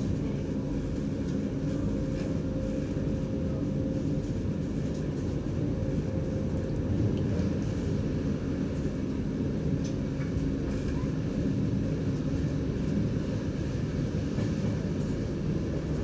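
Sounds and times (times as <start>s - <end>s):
constant hum: 0.0s - 16.0s
train cab low rumble: 0.0s - 16.0s.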